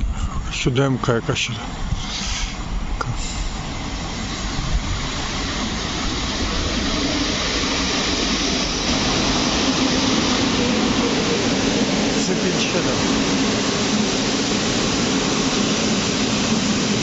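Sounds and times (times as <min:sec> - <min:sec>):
electric train approaching: 0:00.0 - 0:17.0.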